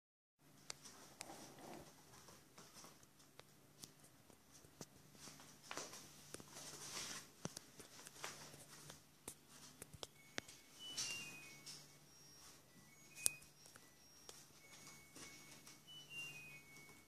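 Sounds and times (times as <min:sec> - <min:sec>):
low steady hum: 0:00.4 - 0:17.0.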